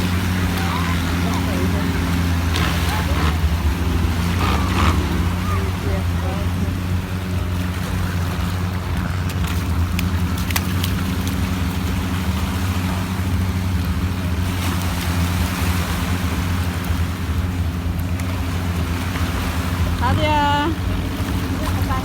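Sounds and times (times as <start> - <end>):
boat engine droning: 0.0 - 22.0
water rushing: 0.0 - 22.0.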